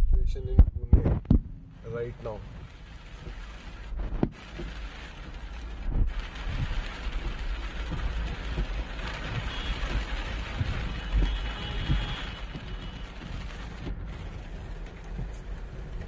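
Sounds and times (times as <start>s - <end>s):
low rumbling: 0.0s - 16.0s
heavy rain hissing: 1.7s - 16.0s.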